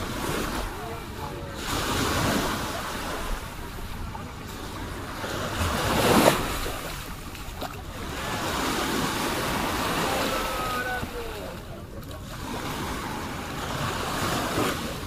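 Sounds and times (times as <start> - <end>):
faint voices of beachgoers: 0.0 - 15.0
small waves washing onto sand: 0.0 - 15.0.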